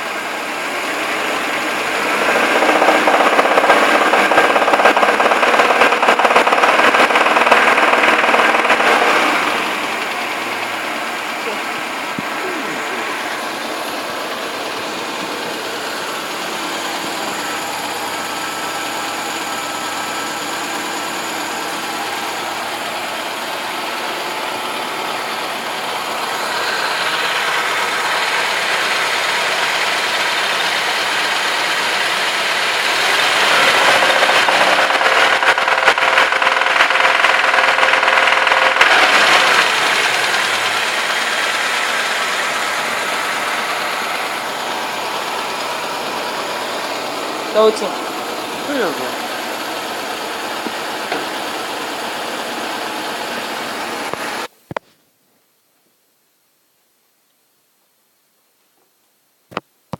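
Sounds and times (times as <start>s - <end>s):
knocking car engine running: 0.0s - 54.5s.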